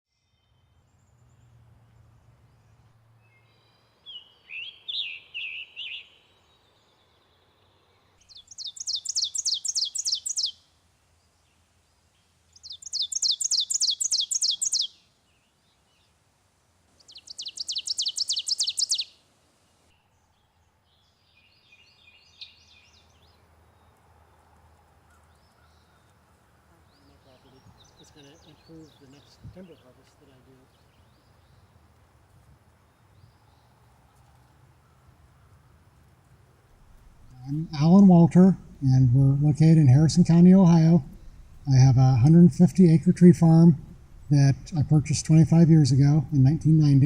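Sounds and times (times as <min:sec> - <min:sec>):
wild birds singing: 0:00.1 - 0:16.2, 0:16.9 - 0:47.0.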